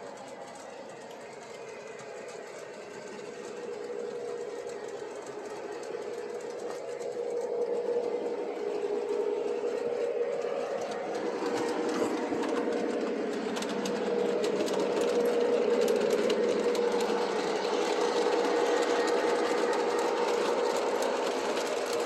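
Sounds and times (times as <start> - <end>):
model train motor hum: 0.0 - 22.0
wheels clicking over track joints: 0.0 - 22.0.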